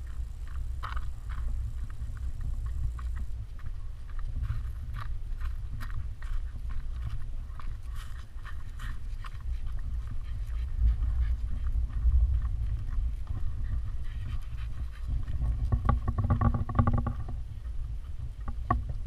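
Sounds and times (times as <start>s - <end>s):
dogs panting: 0.0s - 16.0s
wind rumble on microphone: 0.0s - 19.0s.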